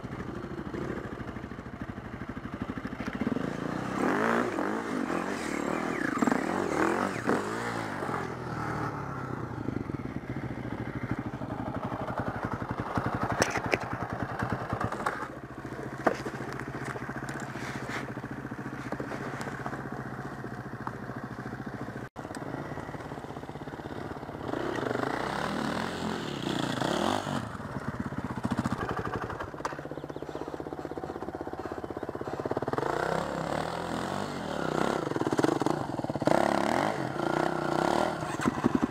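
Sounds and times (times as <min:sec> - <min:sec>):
dirt bike engine revving: 0:03.1 - 0:38.9.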